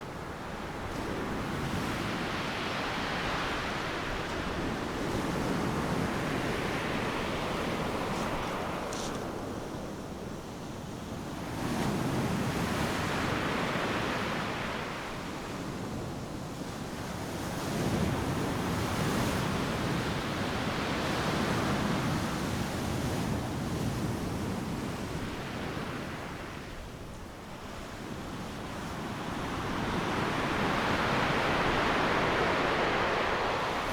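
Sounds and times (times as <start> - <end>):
ocean waves breaking on beach: 0.1 - 33.9.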